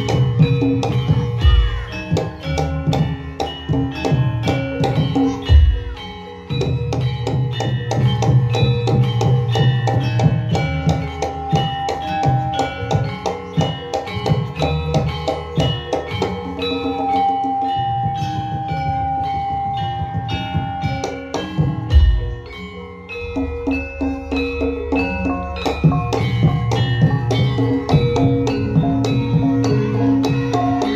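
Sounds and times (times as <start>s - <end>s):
fast rhythmic drumming: 0.0s - 30.9s
struck metal percussion ringing: 0.0s - 30.9s.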